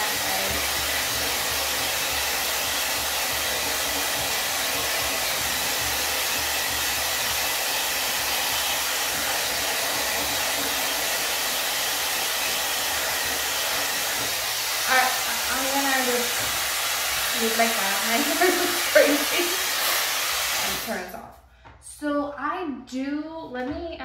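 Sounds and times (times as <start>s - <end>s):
hot air dryer brush hissing: 0.0s - 21.2s.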